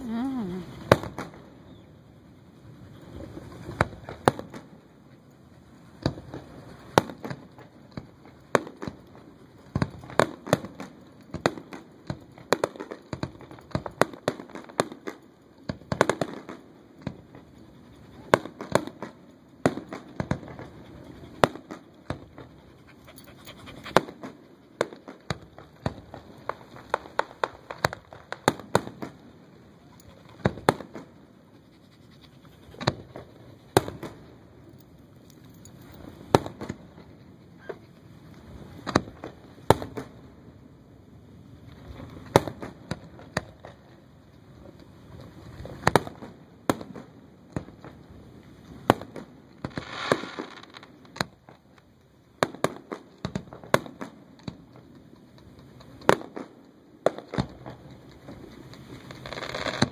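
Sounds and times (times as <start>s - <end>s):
fireworks bursting: 0.0s - 1.8s, 2.8s - 34.6s, 35.8s - 40.3s, 41.7s - 44.0s, 44.6s - 59.9s.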